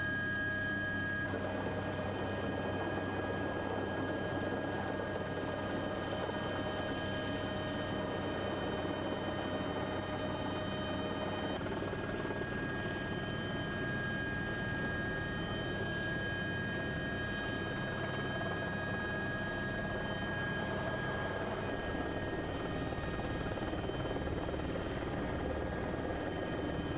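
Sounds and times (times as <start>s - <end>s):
helicopter engine and rotor: 0.0s - 26.9s.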